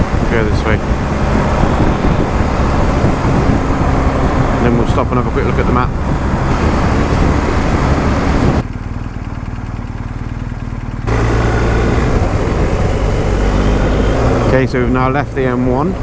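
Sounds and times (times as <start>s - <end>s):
wind rush while riding: 0.0s - 8.6s, 11.1s - 16.0s
motorcycle engine low hum: 0.0s - 16.0s.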